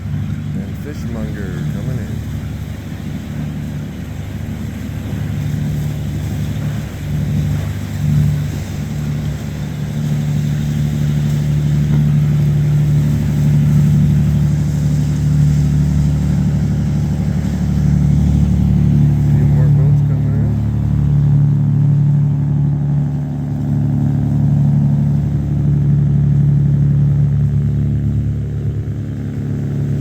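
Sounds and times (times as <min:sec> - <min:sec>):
boat engine drone: 0:00.0 - 0:30.0.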